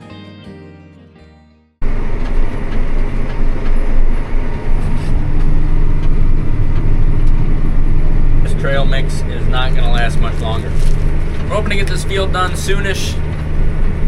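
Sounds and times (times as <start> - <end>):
vehicle low rumble: 1.8 - 14.0.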